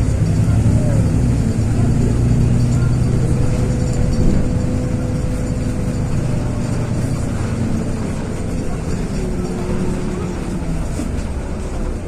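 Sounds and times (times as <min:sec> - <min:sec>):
bus diesel engine running: 0:00.0 - 0:12.0
road and tyre noise: 0:00.0 - 0:12.0.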